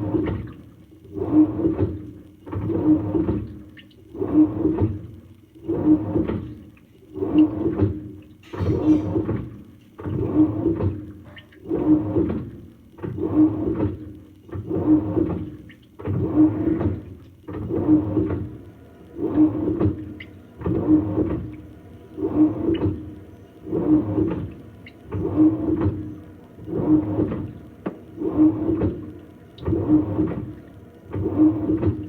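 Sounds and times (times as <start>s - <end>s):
washing machine sloshing water: 0.0s - 5.1s, 5.7s - 32.0s
washing machine motor hum: 0.0s - 32.0s.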